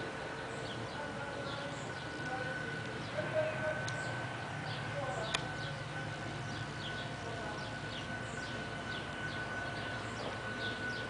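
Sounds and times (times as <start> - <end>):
high-pitched whine: 0.0 - 11.0
low hum: 0.0 - 11.0.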